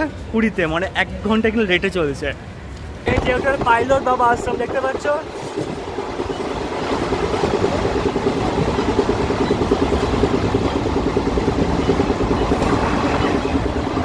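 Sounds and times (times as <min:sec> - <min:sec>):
train wheels on rails: 0:01.4 - 0:14.0.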